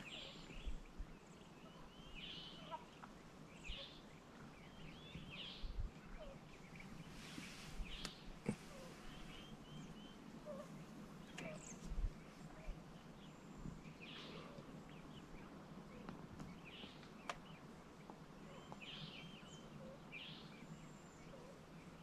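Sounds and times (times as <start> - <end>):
faint low rumble: 0.0 - 22.0
small birds chirping and singing: 0.0 - 22.0.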